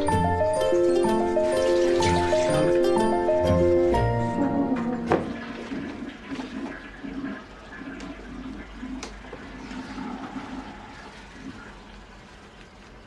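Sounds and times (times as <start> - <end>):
toilet flushing: 0.0 - 13.0.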